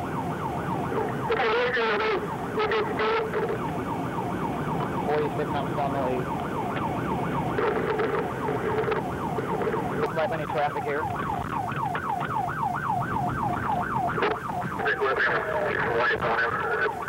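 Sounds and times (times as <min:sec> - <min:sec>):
police siren yelping: 0:00.0 - 0:17.0
vehicle engine and road noise: 0:00.0 - 0:17.0.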